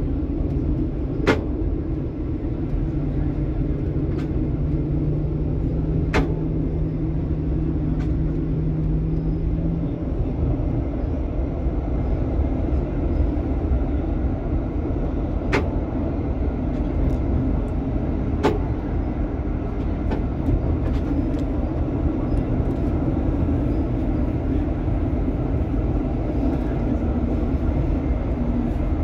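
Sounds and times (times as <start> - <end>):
tram rumbling on rails: 0.0 - 29.0.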